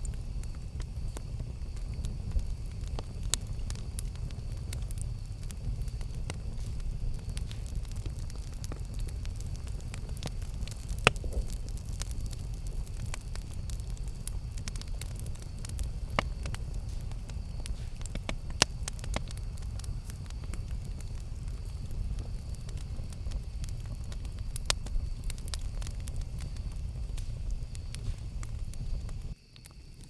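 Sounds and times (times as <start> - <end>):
campfire crackling: 0.0 - 30.0
low rumble of flame: 0.0 - 30.0
sharp pops of fire: 0.0 - 30.0.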